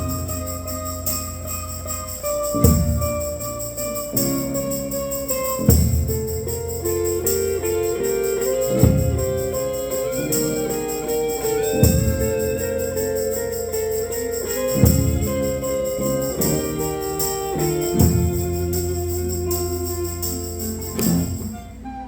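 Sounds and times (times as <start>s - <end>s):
instrumental ensemble melody: 0.0s - 22.0s.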